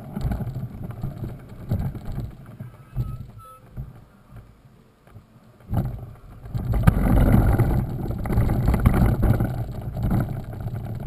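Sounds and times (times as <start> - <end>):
bike rattling: 0.0 - 11.0
bike tyres rumbling on dirt: 0.0 - 11.0.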